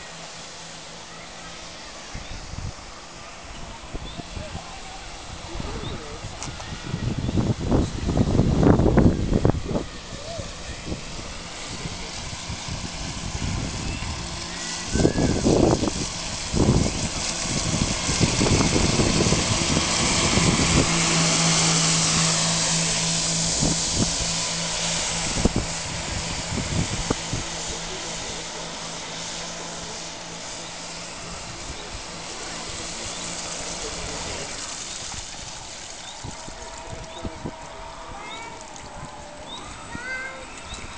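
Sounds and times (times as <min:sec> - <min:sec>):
model boat motor hissing: 0:00.0 - 0:40.9.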